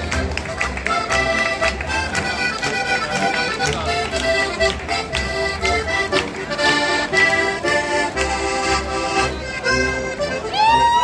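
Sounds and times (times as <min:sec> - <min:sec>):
accordion playing folk tune: 0:00.0 - 0:11.0
double bass plucking: 0:00.0 - 0:11.0.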